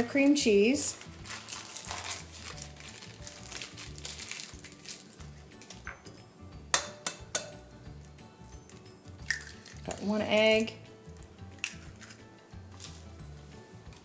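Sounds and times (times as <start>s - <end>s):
soft music with low bass: 0.0s - 14.0s.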